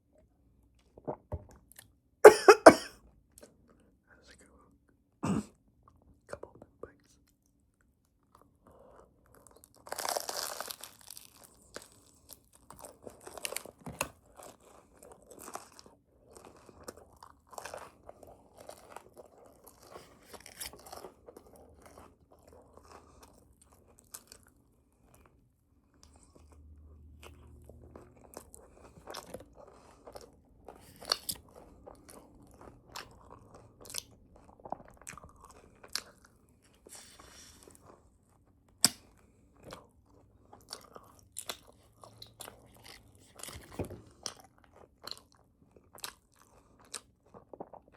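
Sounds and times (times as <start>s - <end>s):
person chewing crunchy bread: 7.8s - 47.9s.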